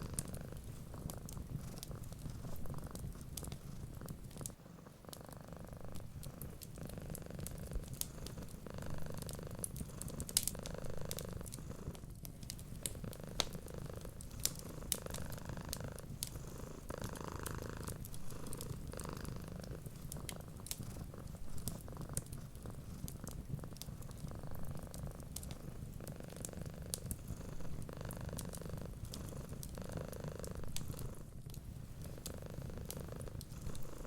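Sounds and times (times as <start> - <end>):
wood fire crackling: 0.0 - 4.6, 5.6 - 34.0
cat purring: 0.0 - 34.0.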